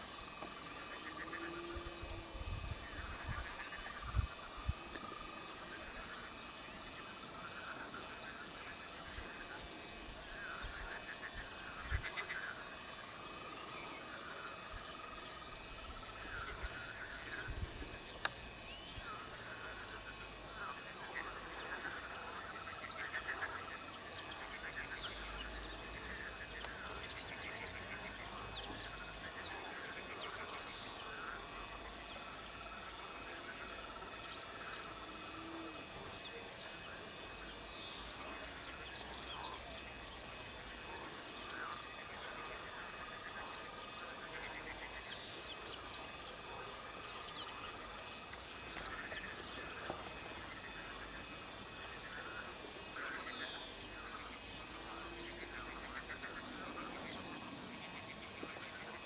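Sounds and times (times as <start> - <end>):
frogs calling: 0.0 - 59.0
small birds chirping: 2.9 - 59.0.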